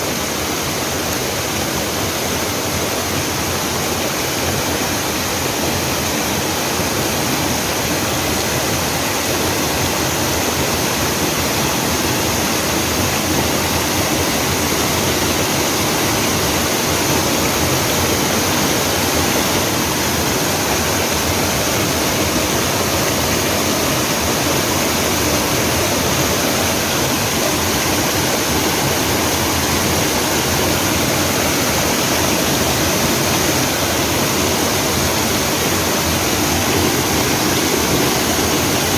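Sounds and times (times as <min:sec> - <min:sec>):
water pouring over rocks: 0:04.4 - 0:38.9.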